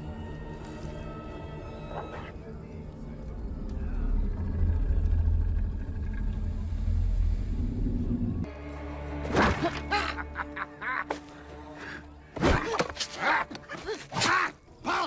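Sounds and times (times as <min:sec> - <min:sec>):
low music drone: 0:00.0 - 0:12.4.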